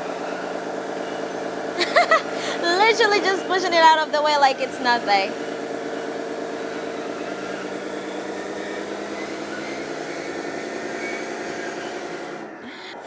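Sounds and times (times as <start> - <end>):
toy bulldozer droning: 0.0 - 13.0.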